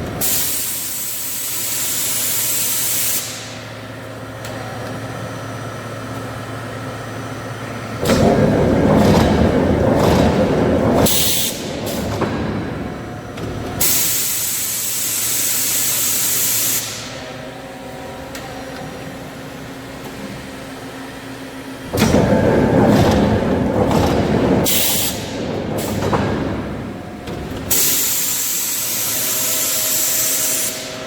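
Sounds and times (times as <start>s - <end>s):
steady motor hum: 0.0s - 31.0s
forging machine noise: 3.9s - 31.0s.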